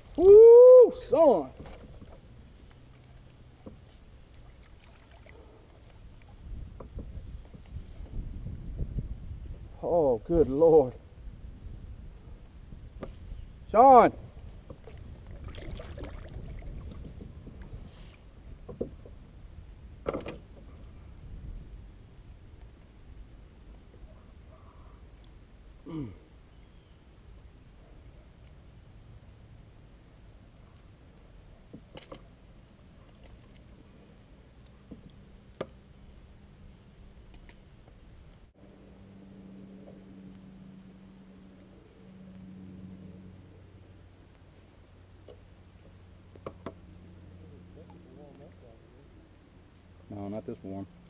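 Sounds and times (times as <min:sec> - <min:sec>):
light wind noise: 0:00.0 - 0:51.0
low steady rumble: 0:00.0 - 0:51.0
steady low hum: 0:00.0 - 0:51.0.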